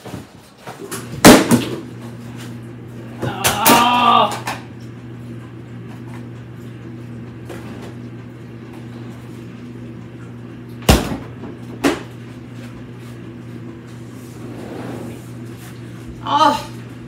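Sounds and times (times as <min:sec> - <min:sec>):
steady low hum: 0:01.0 - 0:17.0.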